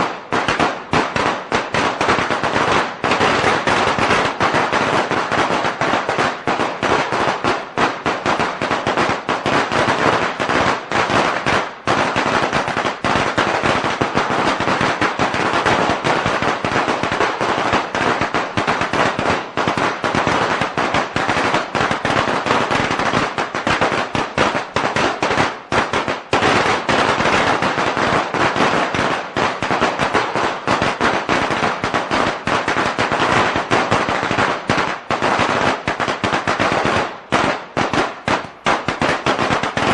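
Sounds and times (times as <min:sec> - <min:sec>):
firecrackers going off: 0:00.0 - 0:39.9.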